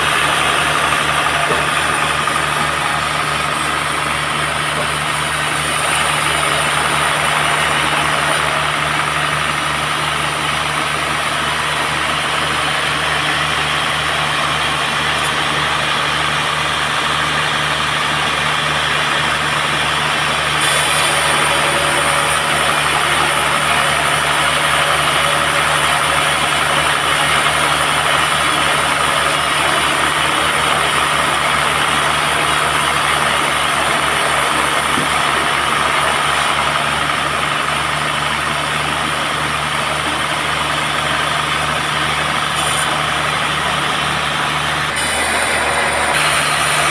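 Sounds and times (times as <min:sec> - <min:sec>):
band sawmill sawing log: 0:00.0 - 0:46.9.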